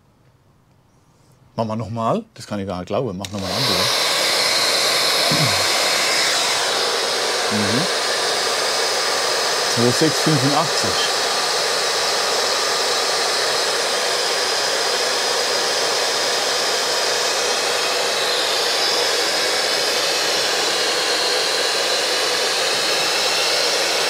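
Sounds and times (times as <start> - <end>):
hair dryers blowing: 3.2 - 24.0.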